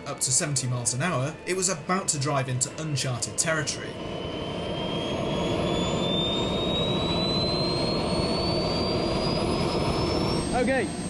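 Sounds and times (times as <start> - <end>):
jet turbine whine and hiss: 0.0 - 11.0.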